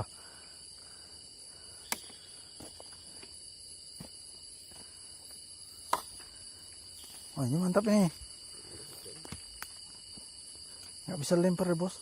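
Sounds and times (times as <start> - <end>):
night insects droning: 0.0 - 12.0.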